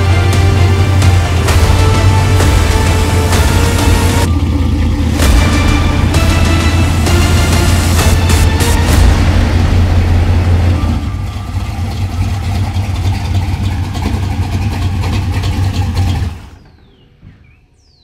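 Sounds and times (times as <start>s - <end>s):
pickup truck engine running: 0.0s - 16.9s.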